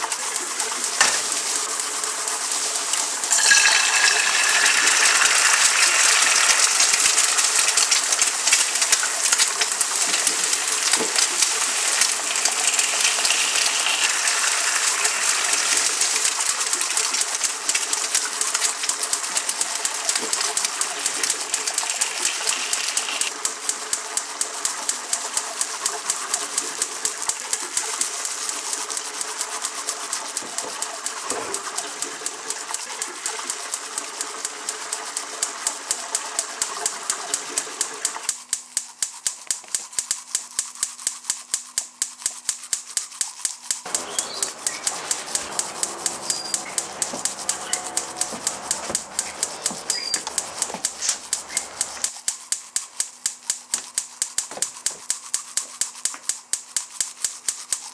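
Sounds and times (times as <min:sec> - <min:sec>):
fast ticking clicks: 0:00.1 - 0:57.9.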